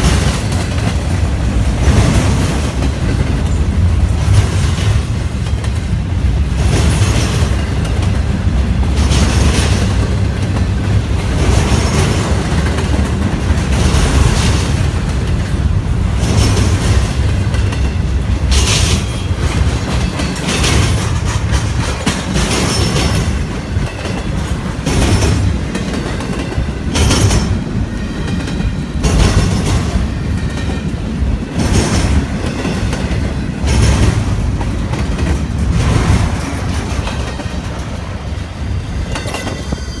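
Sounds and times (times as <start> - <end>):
freight train rumble: 0.0 - 40.0
train wheel clatter: 0.0 - 40.0.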